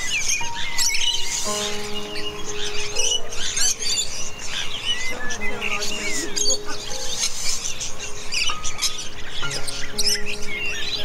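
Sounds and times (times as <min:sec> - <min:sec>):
music of long held notes: 0:00.0 - 0:11.0
small birds chirping: 0:00.0 - 0:11.0.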